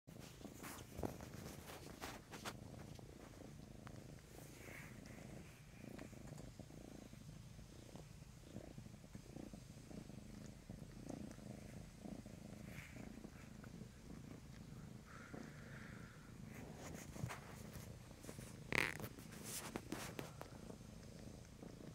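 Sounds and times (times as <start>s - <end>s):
cat purring: 0.1s - 21.9s.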